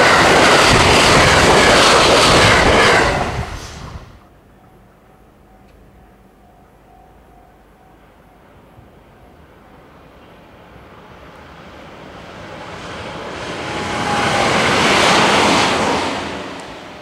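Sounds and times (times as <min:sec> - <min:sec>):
train wheels on rails passing: 0:00.0 - 0:17.0.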